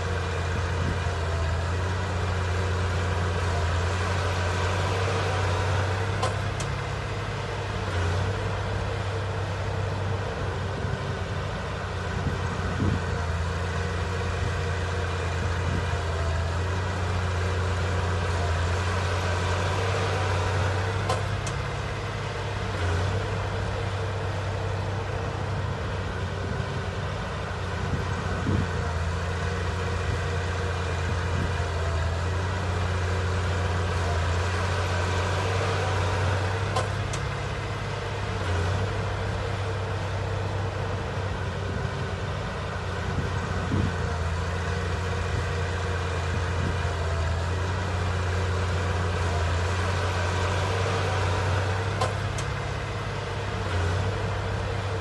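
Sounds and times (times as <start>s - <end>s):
heavy diesel engine humming: 0.0s - 55.0s.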